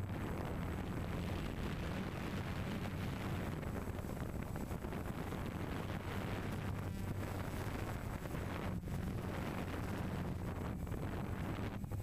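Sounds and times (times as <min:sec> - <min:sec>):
low steady hum: 0:00.0 - 0:12.0
wind on microphone: 0:00.0 - 0:12.0.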